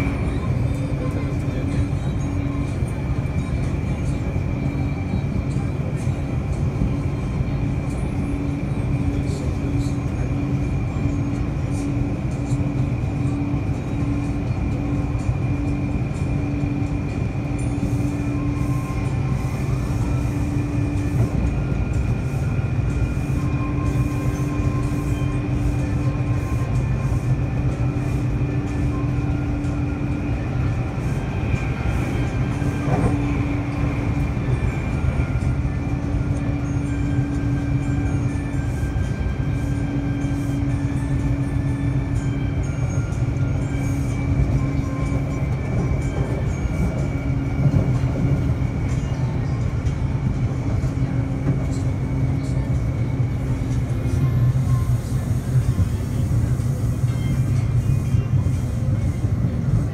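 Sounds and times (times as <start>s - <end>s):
wheels rumbling on track: 0.0s - 59.9s.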